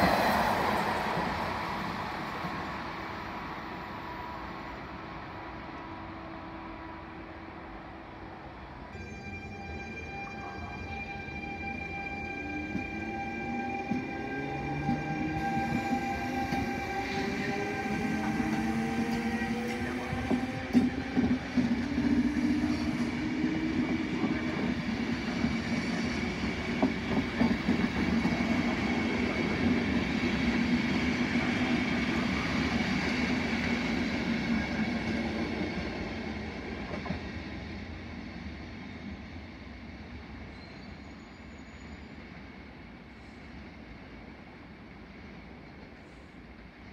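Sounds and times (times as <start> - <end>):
train wheels rumbling on rails: 0.0 - 6.8, 9.0 - 46.9
electric locomotive whine: 0.0 - 46.9.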